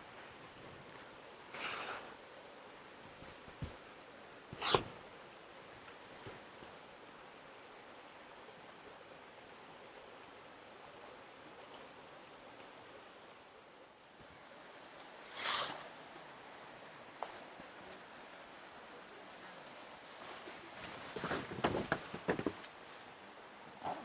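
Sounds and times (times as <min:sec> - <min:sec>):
outdoor ambience hiss: 0:00.0 - 0:24.0.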